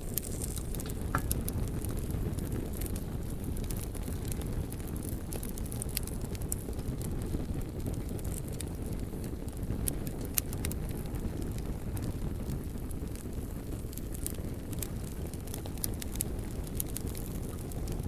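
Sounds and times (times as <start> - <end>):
burning wood crackling and popping: 0.0 - 18.0
wood fire rumbling: 0.0 - 18.0.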